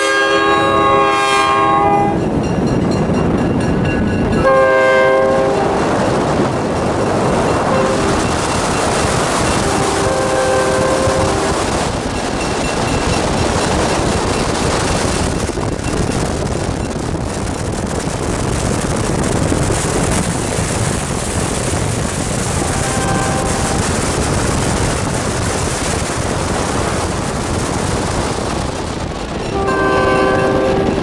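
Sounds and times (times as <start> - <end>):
passenger train passing: 0.0 - 31.0
wind buffeting microphone: 0.0 - 31.0.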